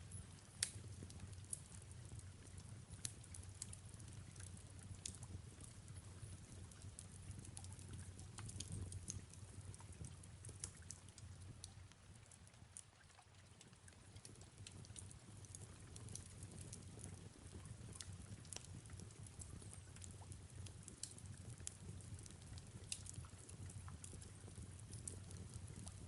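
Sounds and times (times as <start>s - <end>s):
fireplace crackling: 0.0s - 26.0s.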